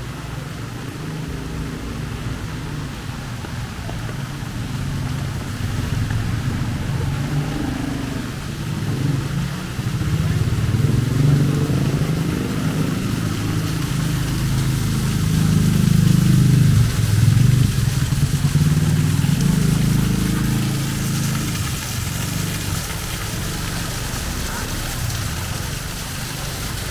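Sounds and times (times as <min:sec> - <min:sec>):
vehicle engines running: 0:00.0 - 0:26.9.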